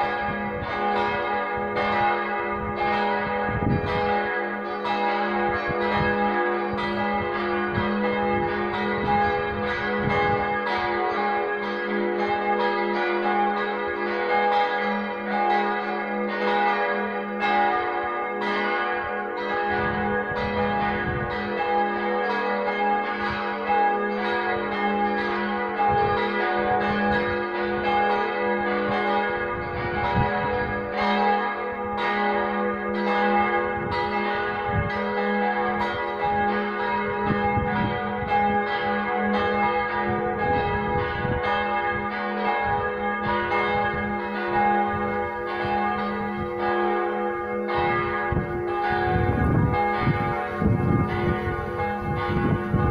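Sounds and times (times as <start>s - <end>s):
church bells clanging: 0.0s - 52.9s.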